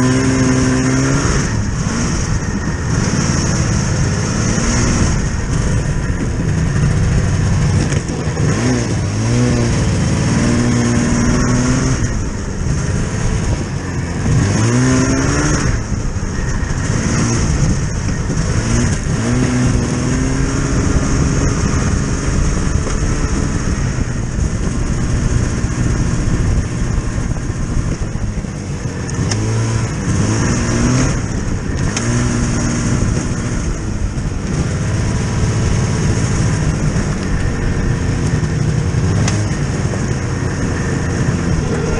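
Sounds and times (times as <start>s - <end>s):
vehicle engine revving: 0.0s - 41.9s.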